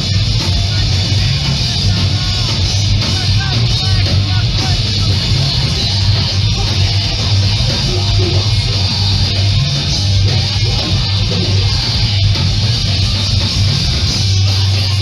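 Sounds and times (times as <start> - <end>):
live punk band playing: 0.0 - 15.0.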